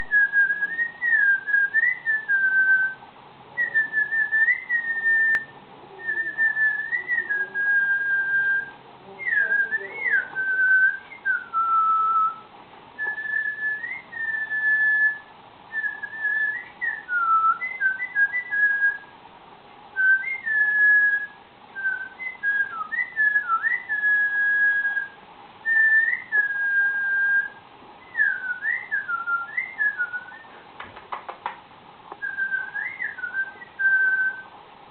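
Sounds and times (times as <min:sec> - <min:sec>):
cockatiel whistling: 0:00.0 - 0:03.0, 0:03.6 - 0:19.1, 0:20.0 - 0:30.6, 0:32.2 - 0:34.5.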